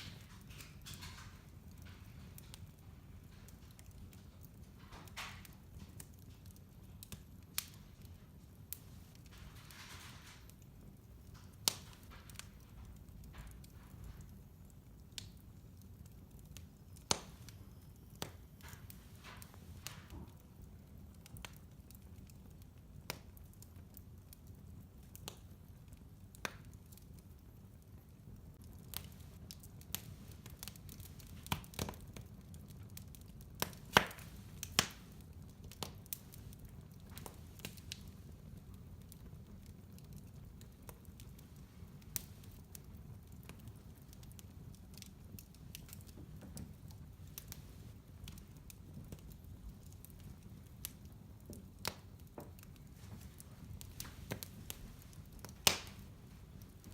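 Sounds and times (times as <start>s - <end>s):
fire flames rumbling: 0.0s - 56.9s
logs crackling and popping: 0.0s - 56.9s.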